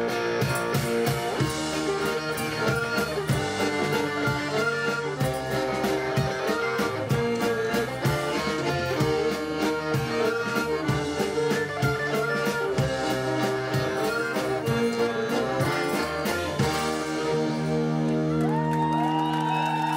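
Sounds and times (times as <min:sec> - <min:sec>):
steady drum beat: 0:00.0 - 0:18.2
accordion: 0:00.0 - 0:18.7
live band playing: 0:00.0 - 0:19.9
tambourine: 0:00.2 - 0:17.1.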